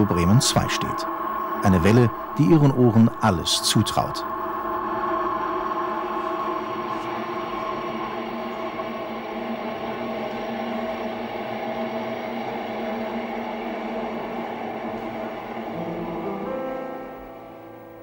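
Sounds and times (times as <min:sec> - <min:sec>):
droning held tones: 0:00.0 - 0:18.0
rushing haze noise: 0:00.0 - 0:18.0.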